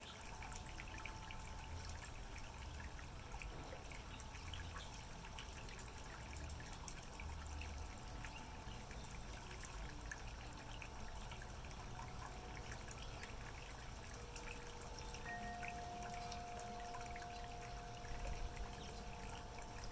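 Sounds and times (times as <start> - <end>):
waterfall pouring into pond: 0.0 - 19.9.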